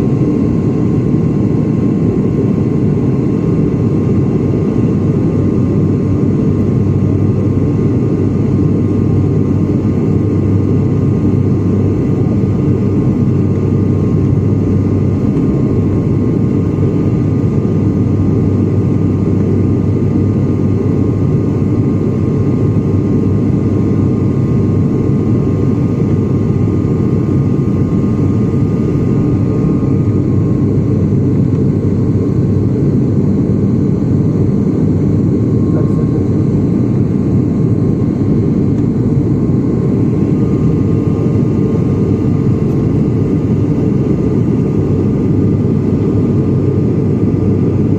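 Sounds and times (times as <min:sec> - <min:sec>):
airliner engine drone in cabin: 0:00.0 - 0:47.9.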